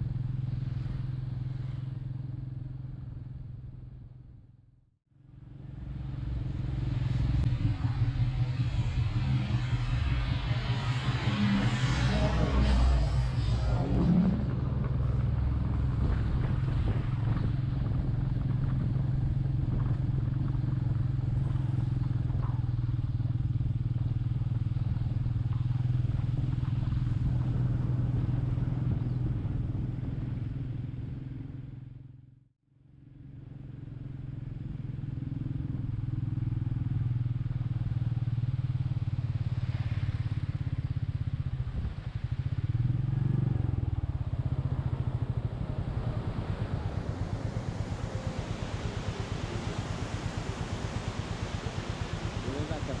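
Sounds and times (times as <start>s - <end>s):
motorcycle engine running: 0.0s - 4.6s, 5.2s - 53.0s.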